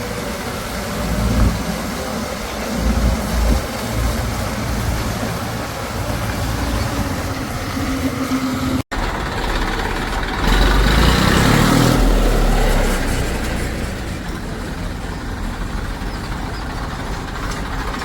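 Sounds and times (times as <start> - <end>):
heavy diesel machinery engines: 0.0 - 18.0.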